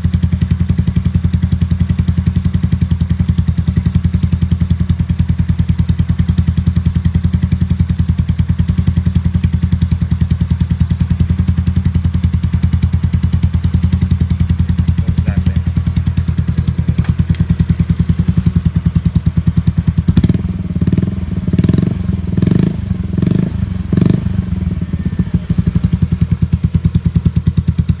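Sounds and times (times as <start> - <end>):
scooter engine idling and revving: 0.0 - 28.0.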